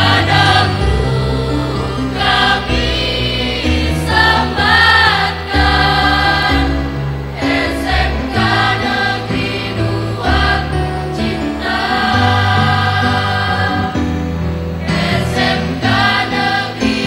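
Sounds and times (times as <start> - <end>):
choir singing in harmony: 0.0 - 17.0.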